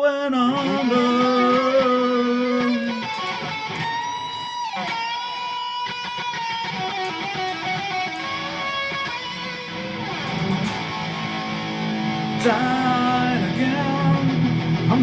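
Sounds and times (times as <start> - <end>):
electric guitar strummed chords: 0.5 - 15.0
guitar pitch slide: 0.5 - 15.0.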